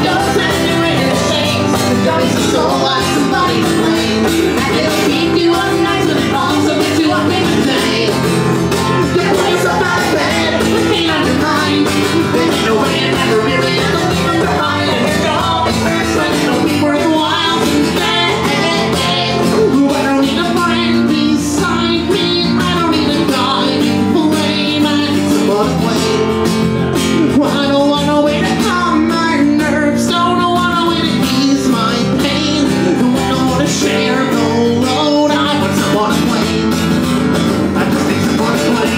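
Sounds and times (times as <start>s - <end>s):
acoustic guitar: 0.0s - 38.9s
banjo: 0.0s - 38.9s.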